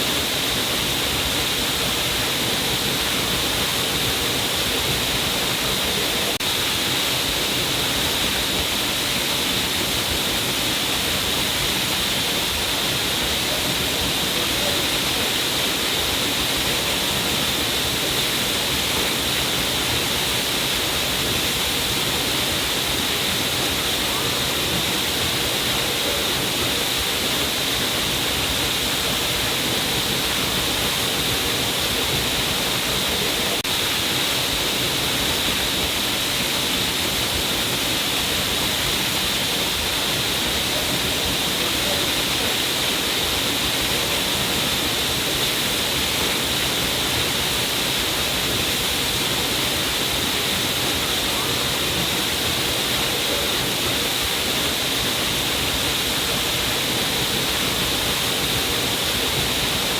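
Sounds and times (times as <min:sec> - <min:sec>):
water falling down cliff: 0:00.0 - 0:59.9.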